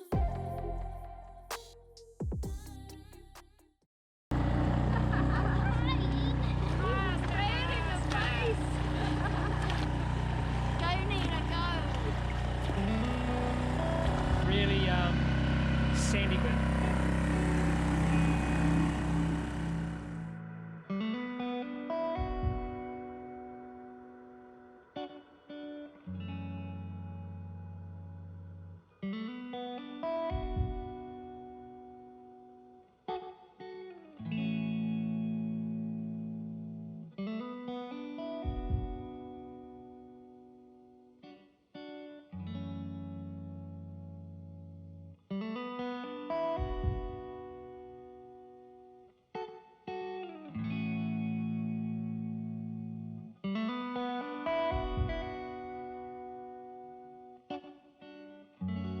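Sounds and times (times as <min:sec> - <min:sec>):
guitar chords ringing: 0:04.4 - 0:59.0.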